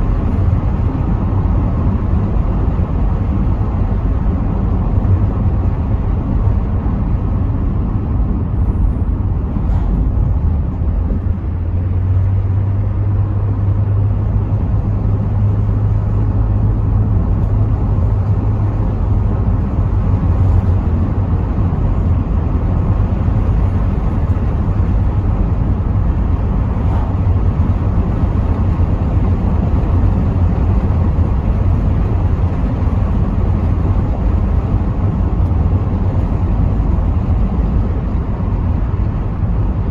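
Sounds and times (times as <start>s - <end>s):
car engine drone: 0.0s - 39.9s
road and tyre noise: 0.0s - 39.9s
wind through open windows: 0.0s - 39.9s.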